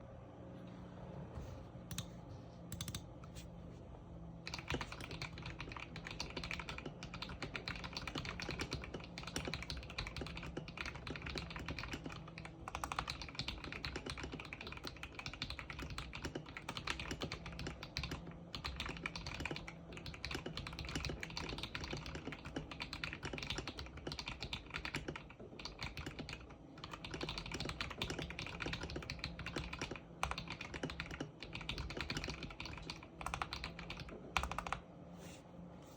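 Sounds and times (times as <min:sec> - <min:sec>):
mechanical keyboard typing: 0:02.7 - 0:03.0, 0:04.5 - 0:34.8.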